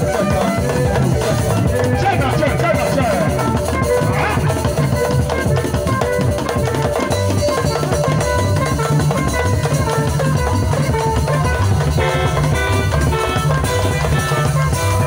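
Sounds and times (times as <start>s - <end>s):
bass line: 0.0s - 15.0s
drum kit beat: 0.0s - 15.0s
live band playing dance music: 0.0s - 15.0s.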